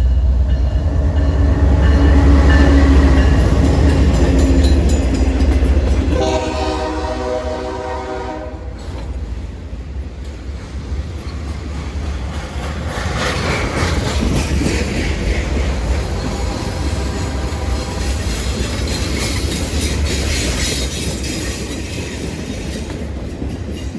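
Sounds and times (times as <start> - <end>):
freight train rolling past: 0.0 - 23.9.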